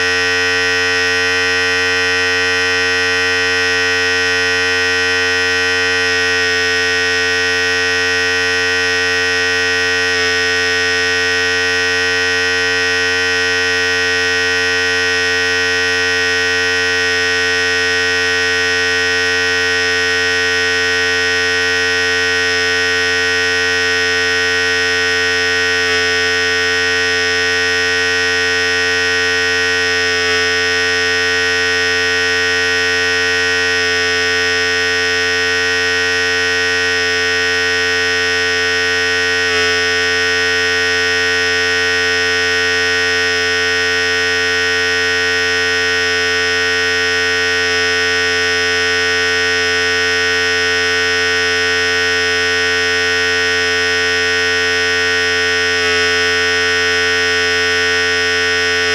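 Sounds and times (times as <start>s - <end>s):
electric hair clipper buzzing: 0.0s - 58.9s.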